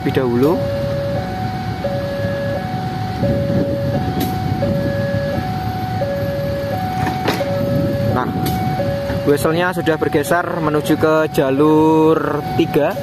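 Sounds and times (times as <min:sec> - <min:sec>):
diesel locomotive idling: 0:00.0 - 0:13.0
two-tone electronic warning signal: 0:00.5 - 0:13.0.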